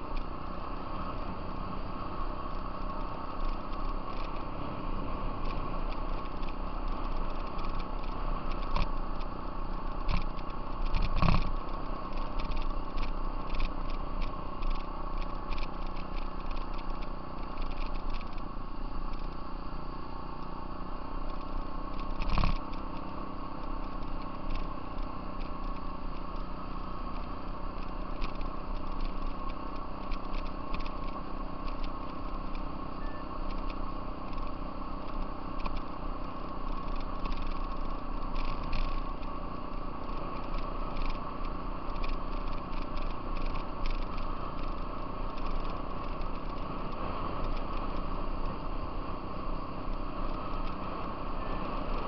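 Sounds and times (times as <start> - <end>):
gravel clicks: 0.0 - 52.0
off-road vehicle engine running: 0.0 - 52.0.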